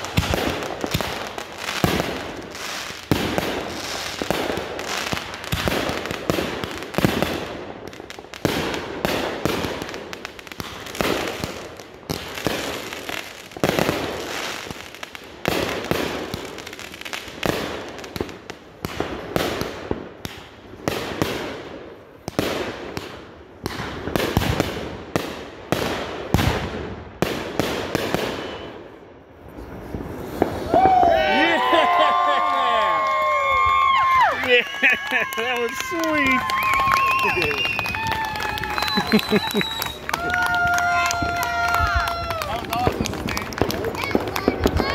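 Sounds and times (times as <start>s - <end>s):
firework bangs and crackling: 0.0s - 44.9s.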